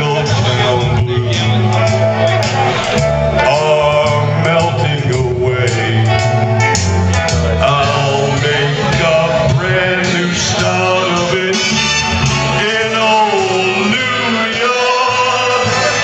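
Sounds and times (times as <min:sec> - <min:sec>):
guitar: 0:00.0 - 0:16.0
man singing: 0:00.0 - 0:16.0.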